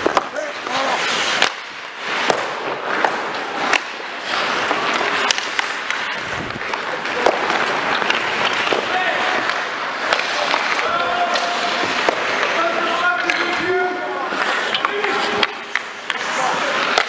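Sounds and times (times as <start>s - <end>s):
skate blades scraping ice: 0.0s - 17.0s
sticks and puck clacking: 0.0s - 17.0s.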